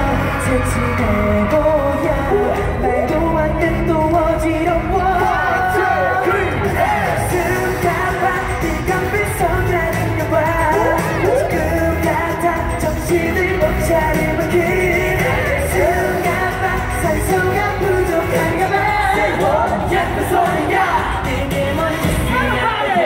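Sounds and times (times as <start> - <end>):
group singing pop: 0.0 - 23.0
pop backing track with beat: 0.0 - 23.0.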